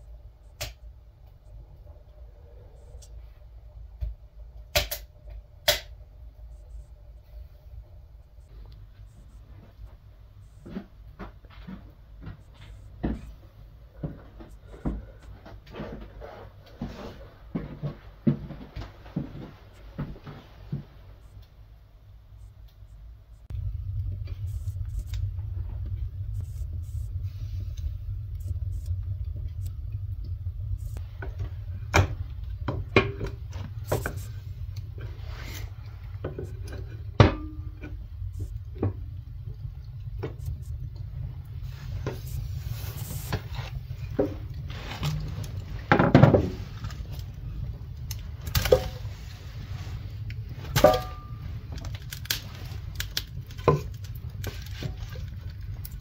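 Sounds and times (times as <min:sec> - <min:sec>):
steady low rumble: 0:00.0 - 0:56.0.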